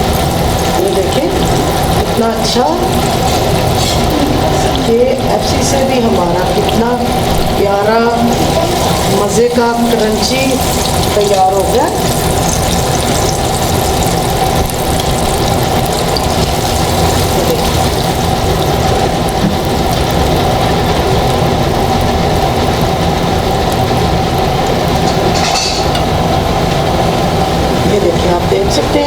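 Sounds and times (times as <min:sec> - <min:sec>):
kitchen appliance humming: 0:00.0 - 0:29.0.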